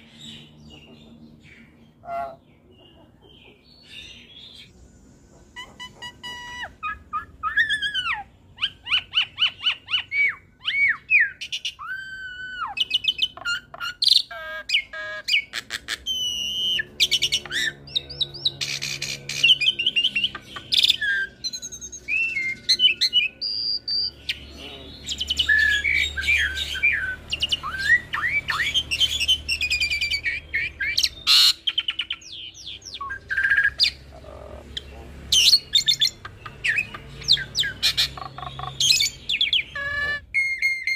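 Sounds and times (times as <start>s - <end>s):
bird harsh squawks: 2.0s - 2.4s, 5.6s - 40.9s
bird whistled song: 5.6s - 34.0s, 35.3s - 40.9s.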